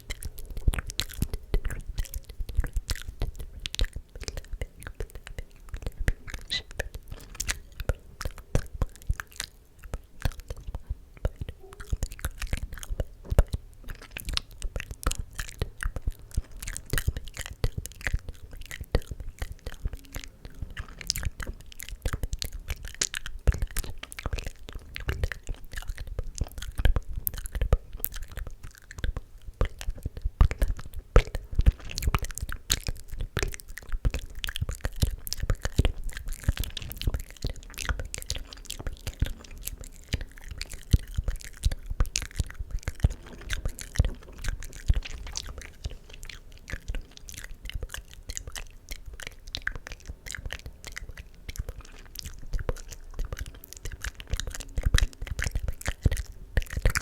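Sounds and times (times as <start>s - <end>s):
wet mouth clicks and smacks: 0.0s - 57.0s.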